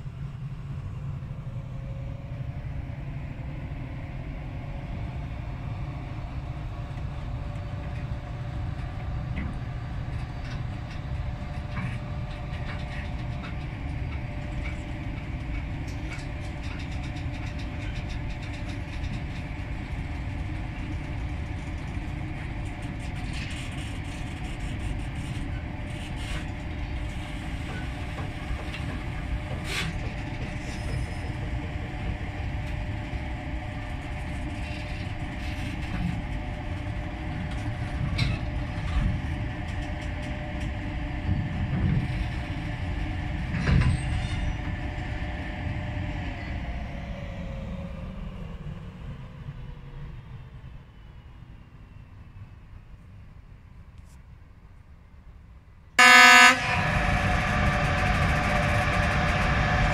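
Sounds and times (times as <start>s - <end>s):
train wheels rumbling on rails: 0.0s - 53.0s, 55.9s - 59.9s.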